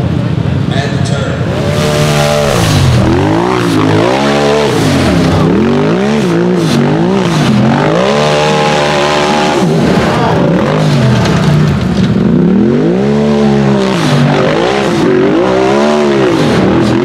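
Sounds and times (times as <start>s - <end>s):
utv engine revving hard: 1.4s - 17.0s.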